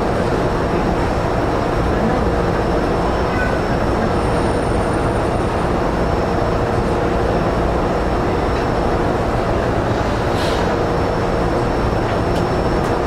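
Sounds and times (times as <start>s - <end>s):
train equipment hum and whine: 0.0s - 13.0s.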